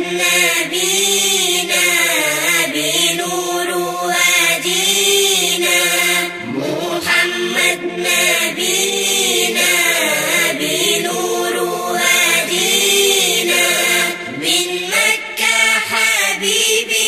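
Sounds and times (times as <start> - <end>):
chorus of voices singing: 0.0 - 17.0.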